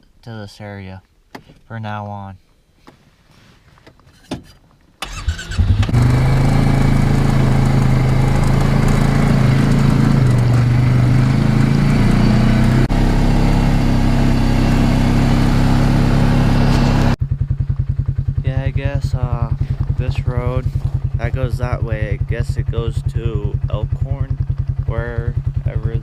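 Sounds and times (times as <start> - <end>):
engine cranking and idling: 5.0 - 26.0.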